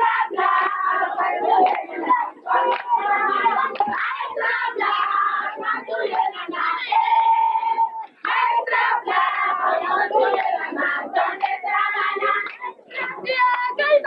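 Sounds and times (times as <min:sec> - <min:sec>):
women singing and calling out: 0:00.0 - 0:14.0.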